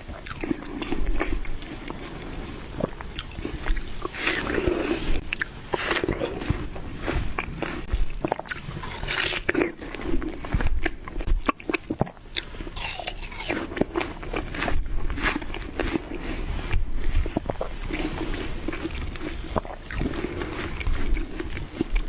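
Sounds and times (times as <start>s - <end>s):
person chewing watermelon: 0.0s - 22.0s.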